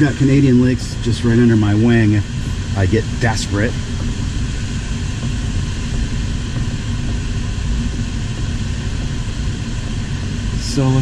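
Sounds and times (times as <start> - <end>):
airflow rushing over glider: 0.0 - 11.0.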